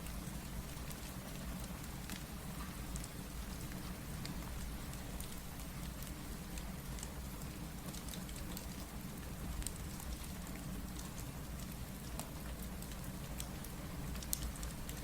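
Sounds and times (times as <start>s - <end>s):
steady rain: 0.0s - 15.0s
wood fire popping and crackling: 0.0s - 15.0s.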